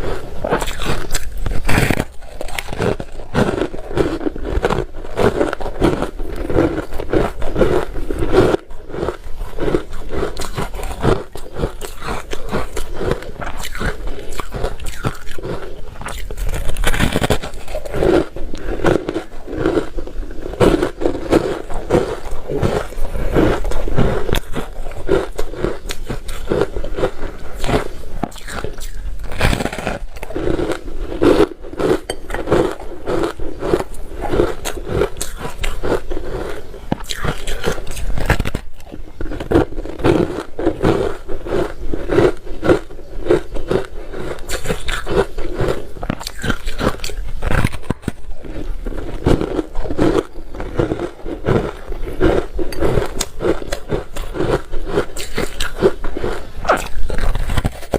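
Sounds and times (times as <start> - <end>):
chewing crunchy ice: 0.0 - 57.9.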